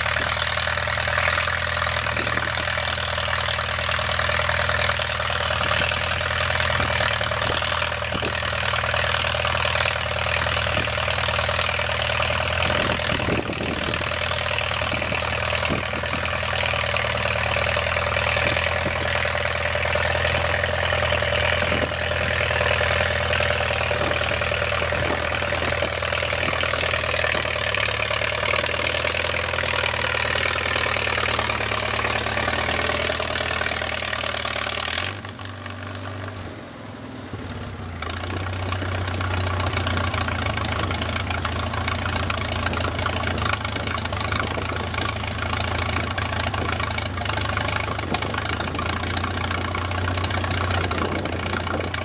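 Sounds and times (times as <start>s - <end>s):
tractor engine: 0.0s - 52.0s.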